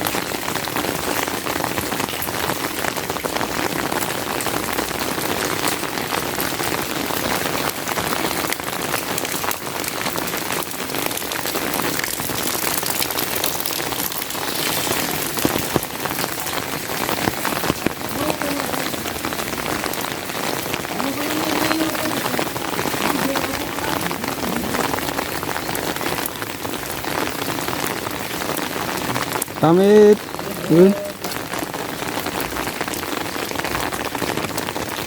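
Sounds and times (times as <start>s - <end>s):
sharp raindrop hits: 0.0s - 35.0s
steady rain falling: 0.0s - 35.0s.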